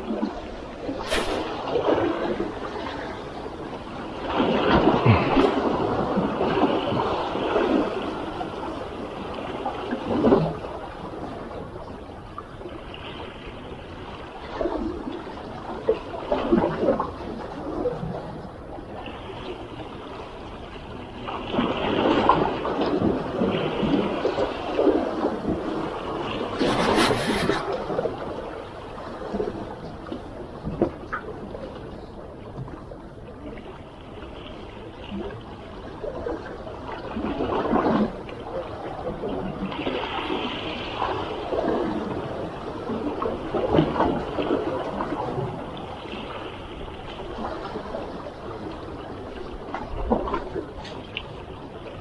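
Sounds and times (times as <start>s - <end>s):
water lapping against rocks: 0.0s - 11.7s, 12.6s - 52.0s
water splashes: 0.0s - 52.0s.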